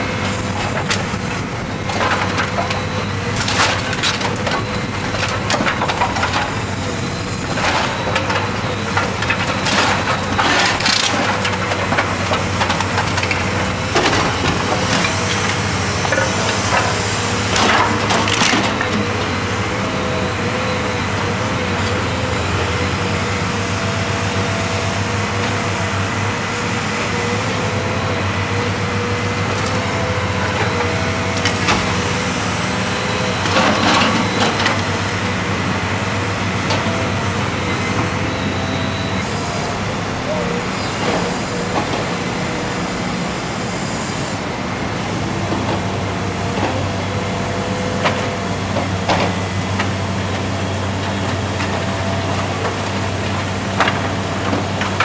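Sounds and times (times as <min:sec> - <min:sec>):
excavator diesel engine and hydraulics: 0:00.0 - 0:55.0
timber and masonry crunching: 0:00.0 - 0:55.0.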